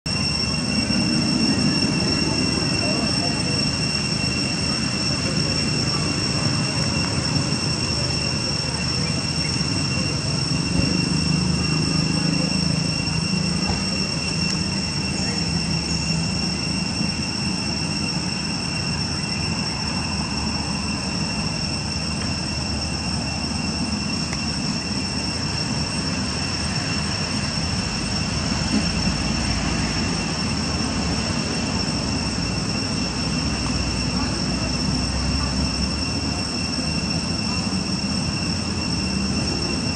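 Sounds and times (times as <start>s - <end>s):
constant rushing hiss: 0.1s - 39.9s
insects droning: 0.1s - 39.9s.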